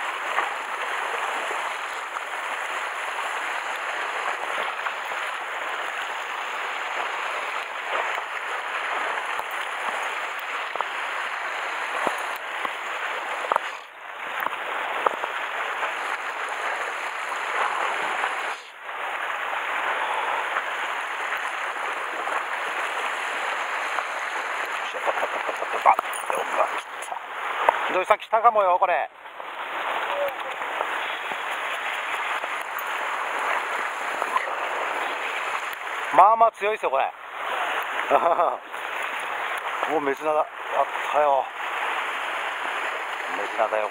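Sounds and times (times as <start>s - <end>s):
sea water lapping against rocks: 0.0s - 43.9s.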